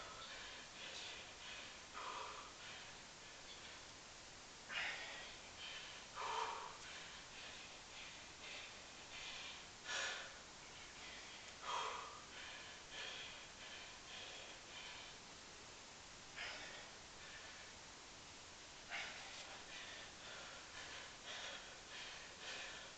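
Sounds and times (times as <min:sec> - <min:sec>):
person breathing hard: 0:00.0 - 0:03.9, 0:04.7 - 0:15.4, 0:16.3 - 0:17.8, 0:18.8 - 0:22.9.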